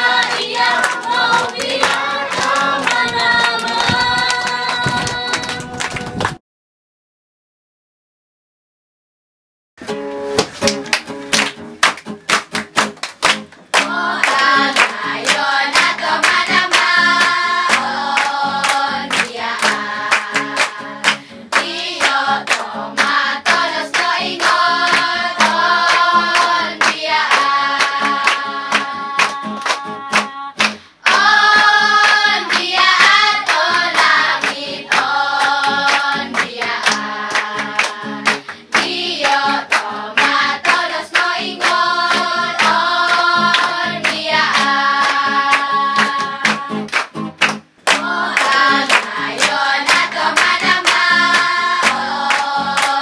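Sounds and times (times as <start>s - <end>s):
children singing: 0.0s - 5.7s, 13.8s - 46.9s, 47.9s - 53.0s
children clapping in time: 0.0s - 6.4s, 10.4s - 53.0s.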